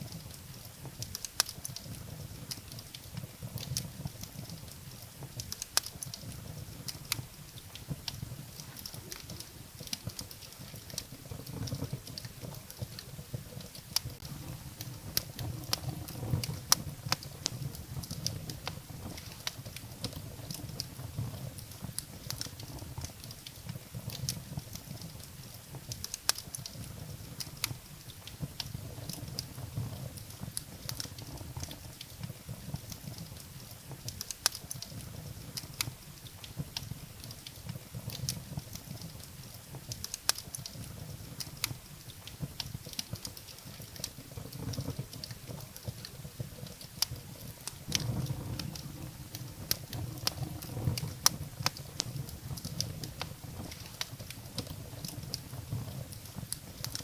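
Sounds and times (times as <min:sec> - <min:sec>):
firewood crackling and popping: 0:00.0 - 0:57.0
wood fire rumbling: 0:00.0 - 0:57.0.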